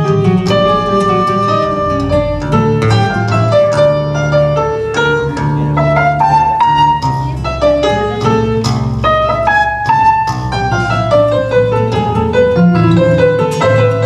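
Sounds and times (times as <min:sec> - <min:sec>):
baroque keyboard piece: 0:00.0 - 0:14.0.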